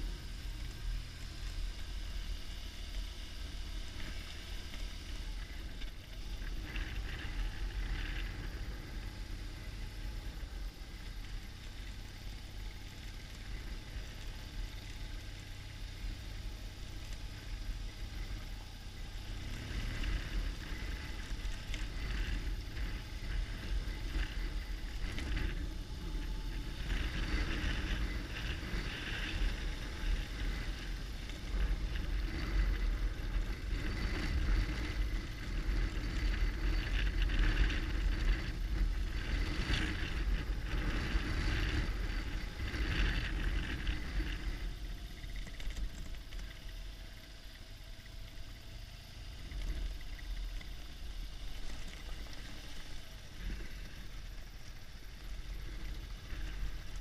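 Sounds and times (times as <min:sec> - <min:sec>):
motorcycle engine on dirt track: 0:00.0 - 0:57.0.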